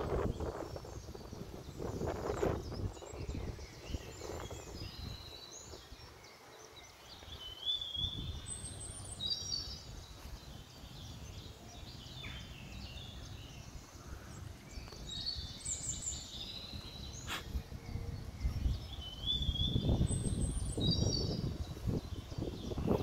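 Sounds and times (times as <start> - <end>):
birds chirping and whistling: 0.0 - 23.0.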